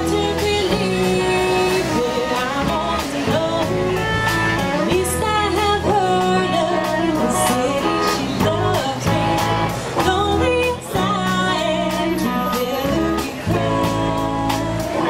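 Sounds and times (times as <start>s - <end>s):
electric bass: 0.0s - 15.0s
electric guitar: 0.0s - 15.0s
woman singing: 0.0s - 15.0s.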